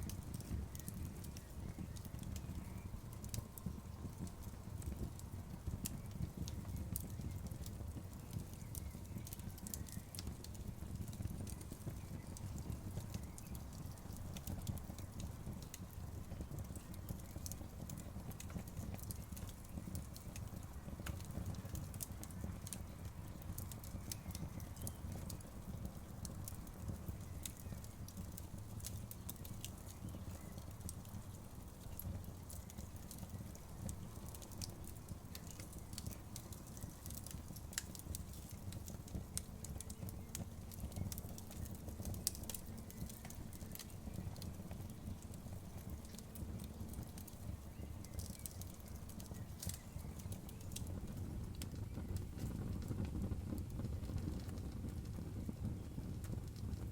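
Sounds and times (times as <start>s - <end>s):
wood fire crackling and popping: 0.0s - 56.9s.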